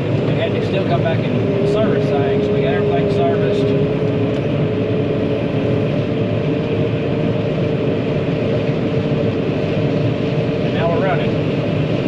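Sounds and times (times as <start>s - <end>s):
combine harvester droning: 0.0s - 12.0s
constant machine whine: 0.0s - 12.0s.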